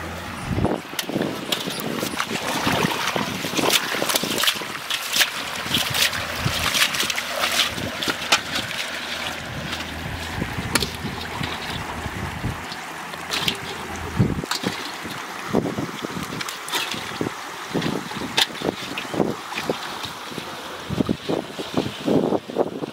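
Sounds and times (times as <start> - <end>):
shallow river water running: 0.0 - 22.9
wind on microphone: 0.0 - 22.9
fish splashing in metal bowl: 1.4 - 20.2.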